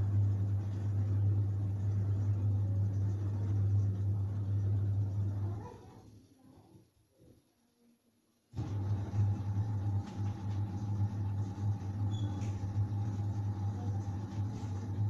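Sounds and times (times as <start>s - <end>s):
low mechanical hum: 0.0s - 6.7s, 8.6s - 15.0s.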